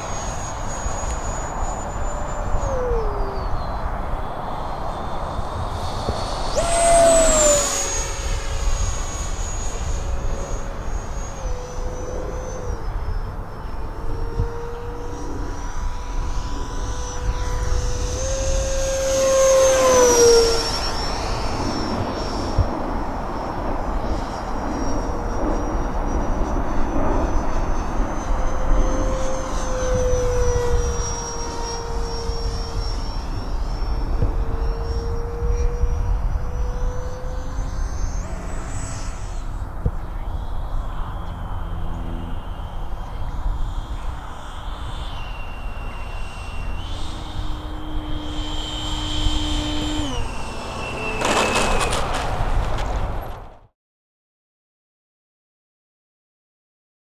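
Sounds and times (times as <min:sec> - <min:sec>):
model jet fan whine: 0:00.0 - 0:53.7.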